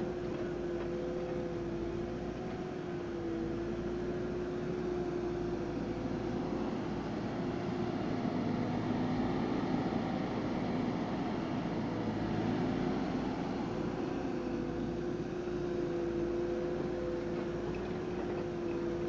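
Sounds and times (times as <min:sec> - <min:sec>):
machine engine droning: 0:00.0 - 0:19.0.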